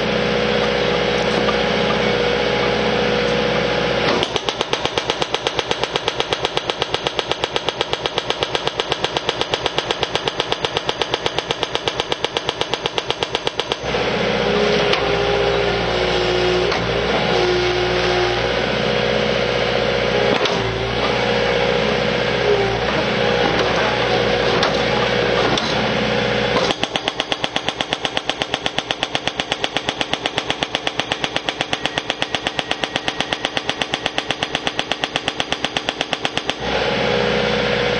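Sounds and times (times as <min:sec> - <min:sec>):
loader engine running: 0:00.0 - 0:37.9.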